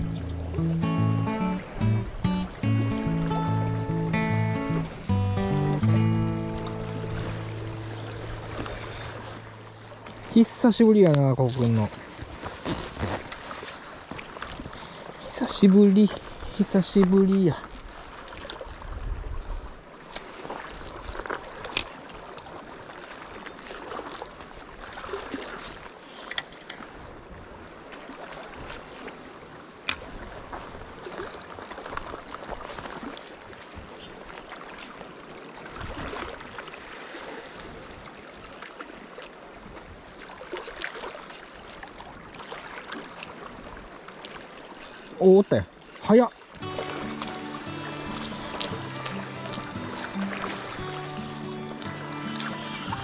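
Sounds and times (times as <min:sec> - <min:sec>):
waves lapping on rocky shore: 0:00.0 - 0:53.0.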